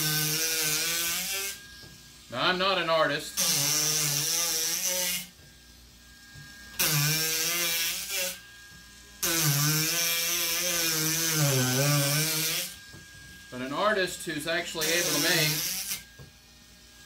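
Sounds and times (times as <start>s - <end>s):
power carving tool whirring: 0.0s - 17.0s.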